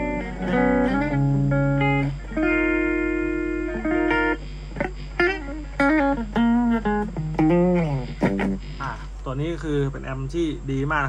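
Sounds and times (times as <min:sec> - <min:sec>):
clean electric guitar: 0:00.0 - 0:09.2.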